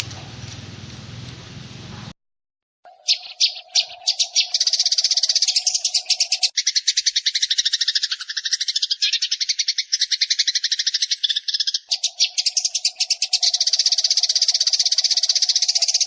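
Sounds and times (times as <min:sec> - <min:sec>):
sparrows chattering: 0:02.9 - 0:16.0
woodpecker calls: 0:02.9 - 0:16.0.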